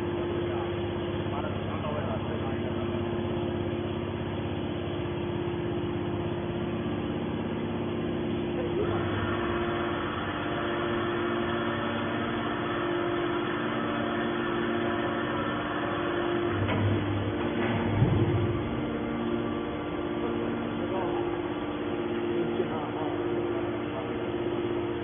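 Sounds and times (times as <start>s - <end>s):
hydraulic baler machine hum: 0.0s - 25.0s.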